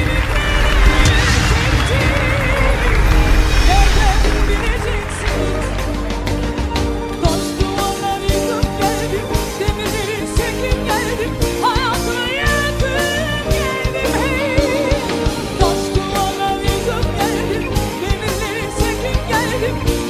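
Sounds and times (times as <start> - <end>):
steady drum beat: 0.0 - 19.0
band with sustained instruments: 0.0 - 20.0.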